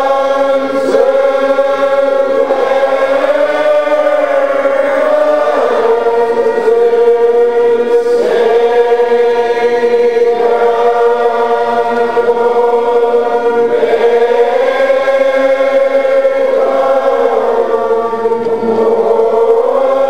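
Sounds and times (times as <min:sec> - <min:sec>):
crowd singing unaccompanied: 0:00.0 - 0:20.0.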